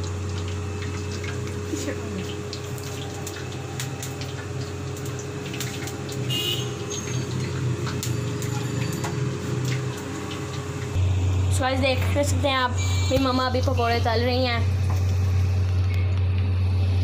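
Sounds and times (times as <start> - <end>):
batter sizzling in hot oil: 0.0 - 17.0
low steady hum: 0.0 - 17.0.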